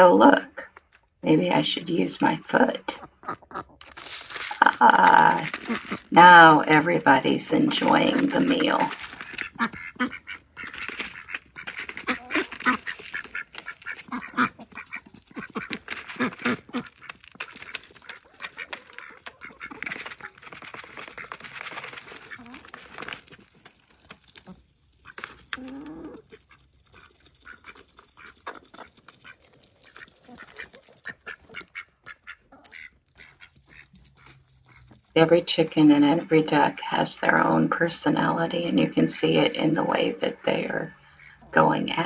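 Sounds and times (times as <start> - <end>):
ducks quacking: 1.3 - 23.1, 25.0 - 42.0
bills pecking at plastic feeder: 1.8 - 42.0.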